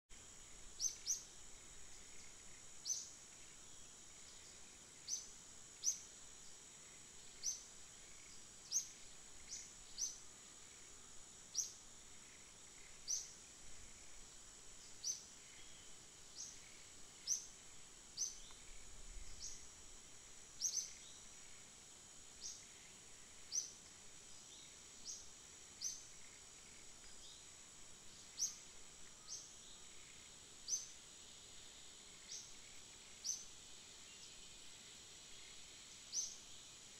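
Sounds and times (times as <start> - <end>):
high-pitched insect drone: 0.2 - 36.9.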